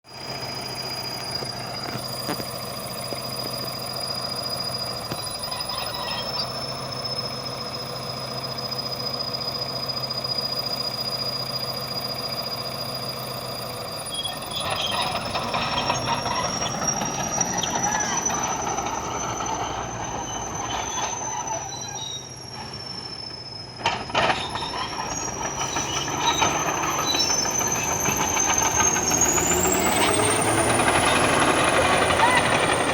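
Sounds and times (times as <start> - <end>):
train humming with whine: 0.1 - 32.9.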